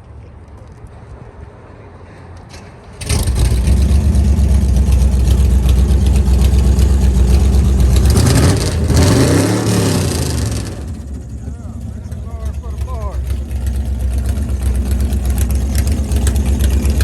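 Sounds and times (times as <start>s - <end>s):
car engine starting and rumbling: 2.8s - 17.0s
car engine revving: 3.0s - 17.0s.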